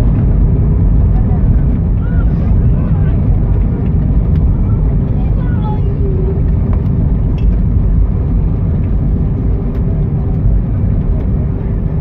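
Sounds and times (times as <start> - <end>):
constant hum: 0.0 - 12.0
idling aircraft engines rumbling: 0.0 - 12.0.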